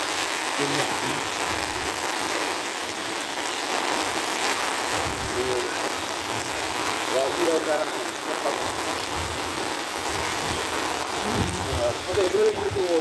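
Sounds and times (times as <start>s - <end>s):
heavy rain on wet road: 0.0s - 13.0s.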